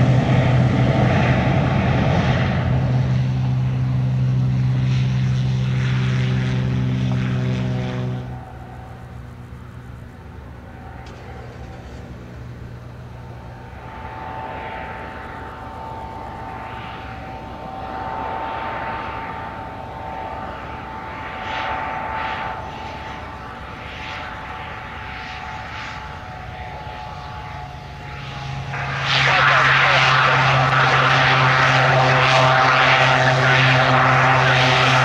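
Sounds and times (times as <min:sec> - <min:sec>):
propeller rushing: 0:00.0 - 0:35.0
turbine whine: 0:00.0 - 0:35.0.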